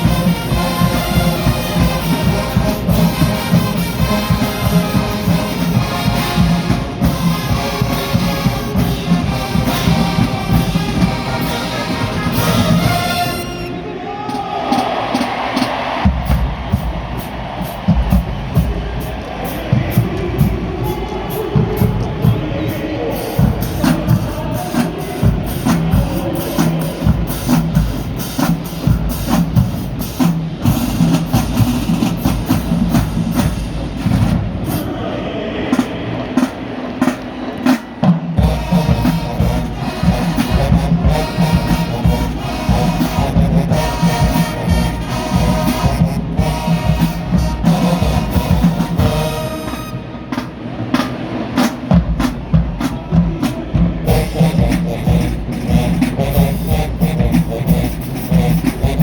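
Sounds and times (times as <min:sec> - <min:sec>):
marching band brass: 0:00.0 - 0:59.0
pounding drumline: 0:00.0 - 0:59.0.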